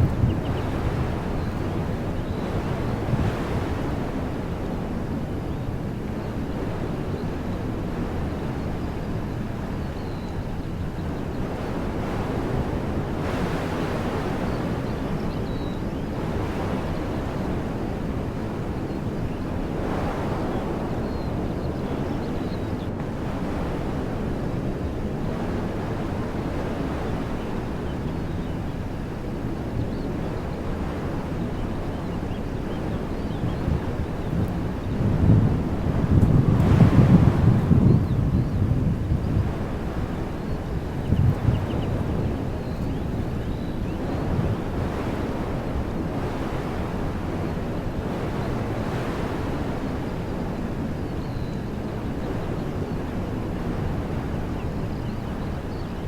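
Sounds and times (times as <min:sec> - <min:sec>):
wind rumble on microphone: 0:00.0 - 0:56.0
wind rushing through trees: 0:00.0 - 0:56.0.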